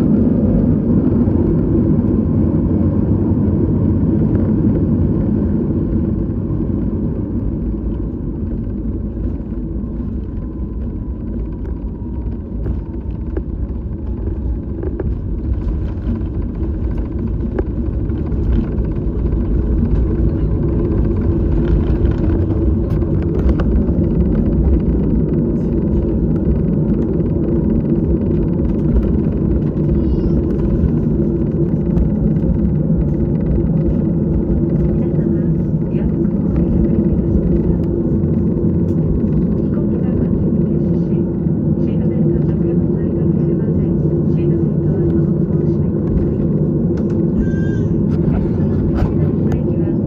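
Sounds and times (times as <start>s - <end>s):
airliner cabin engine rumble: 0.0s - 50.0s.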